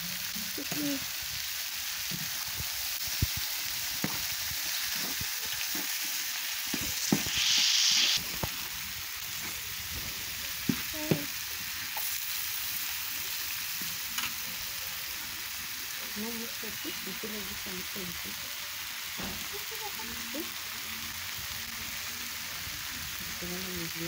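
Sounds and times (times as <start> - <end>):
meat sizzling on a griddle: 0.0 - 24.0.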